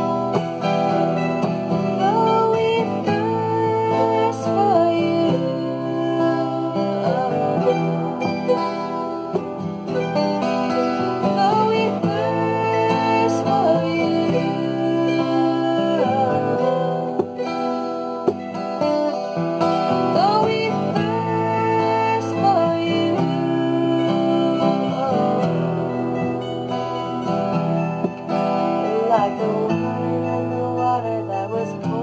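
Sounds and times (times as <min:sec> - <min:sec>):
acoustic guitar: 0:00.0 - 0:32.0
mandolin: 0:00.0 - 0:32.0
woman singing: 0:00.0 - 0:32.0.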